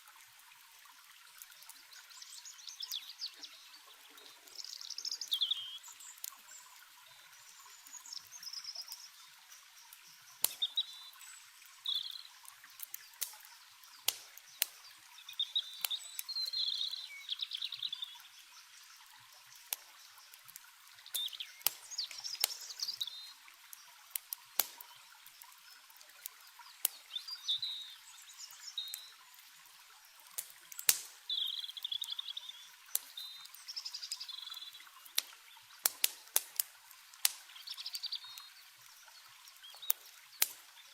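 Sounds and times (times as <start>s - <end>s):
campfire crackling and popping: 0.0s - 40.9s
running water hiss: 0.0s - 40.9s
songbirds chirping: 0.6s - 40.9s.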